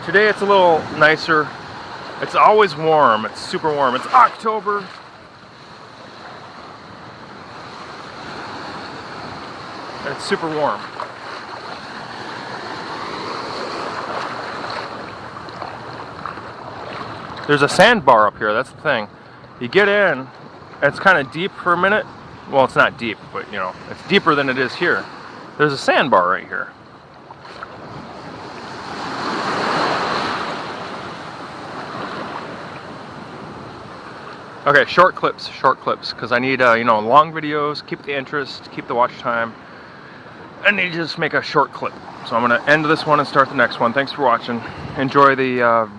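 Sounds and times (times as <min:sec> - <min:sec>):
ocean waves breaking: 0:00.0 - 0:45.9
surf washing around legs: 0:00.0 - 0:45.9.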